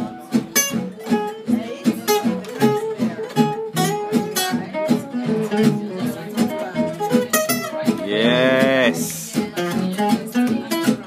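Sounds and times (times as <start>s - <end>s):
guitar melody line: 0.0s - 11.0s
plucked double bass: 0.0s - 11.0s
strummed acoustic guitar chords: 0.0s - 11.0s.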